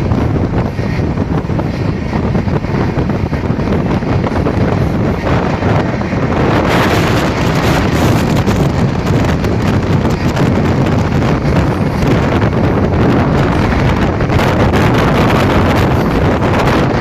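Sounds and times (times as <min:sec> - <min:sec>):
moving train rumble: 0:00.0 - 0:17.0
wind buffeting microphone: 0:00.0 - 0:17.0.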